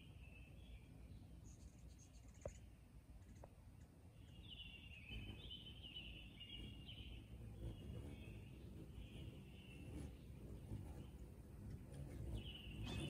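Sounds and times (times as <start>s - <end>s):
faint bird song: 0.0s - 13.0s
low outdoor background noise: 0.0s - 13.0s.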